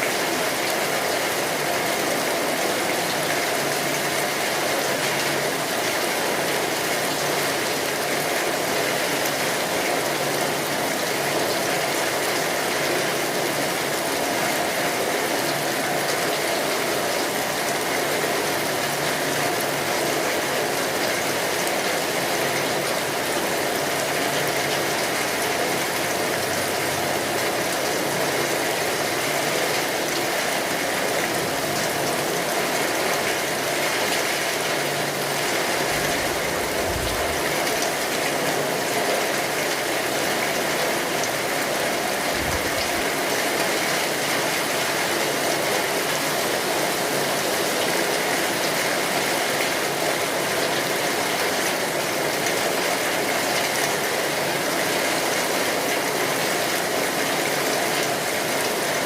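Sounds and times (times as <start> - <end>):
rain on a tin roof: 0.0 - 59.0.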